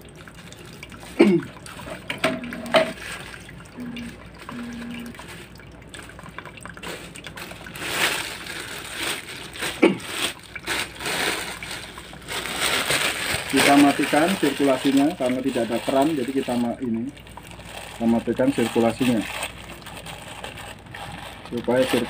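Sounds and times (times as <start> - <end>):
water pouring into basin: 0.0 - 22.0
water splashing: 0.0 - 22.0.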